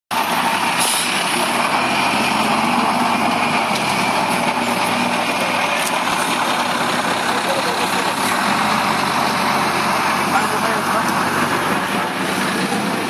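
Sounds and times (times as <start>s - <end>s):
engines idling: 0.1s - 13.0s.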